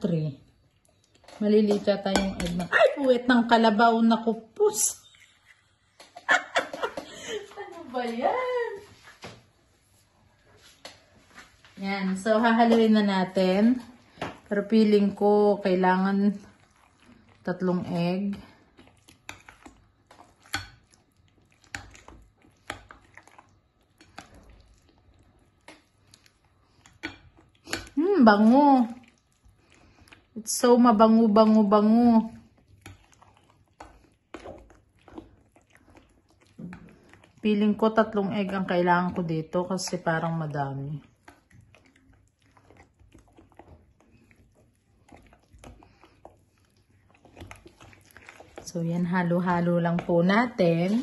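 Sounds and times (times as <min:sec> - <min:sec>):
soft wet mixing: 0:00.0 - 0:51.0.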